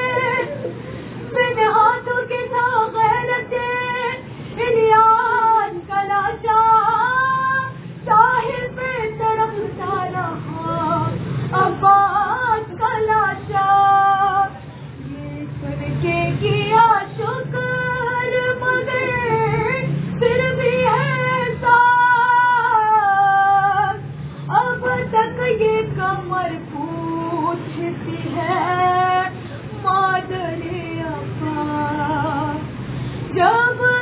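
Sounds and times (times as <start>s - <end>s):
woman singing a lament: 0.0s - 0.7s, 1.3s - 32.7s, 33.3s - 34.0s.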